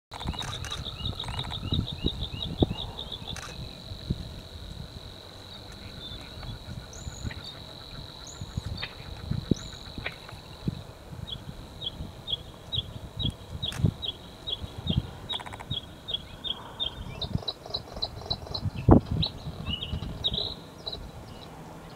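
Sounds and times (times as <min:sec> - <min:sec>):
bird song with rapid high chirps: 0:00.1 - 0:03.8, 0:05.5 - 0:10.5, 0:11.2 - 0:21.9.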